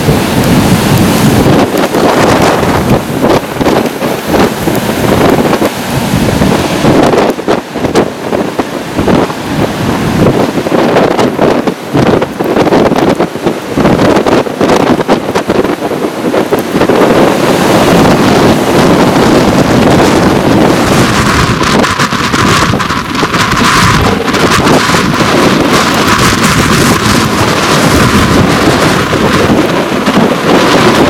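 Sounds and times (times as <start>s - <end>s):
surf breaking on a beach: 0.0s - 31.0s
wind blasting the microphone: 0.0s - 31.0s.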